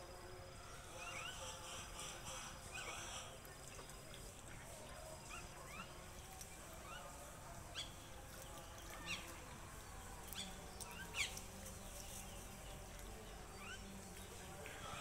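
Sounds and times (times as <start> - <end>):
small birds chirping: 0.6 - 15.0.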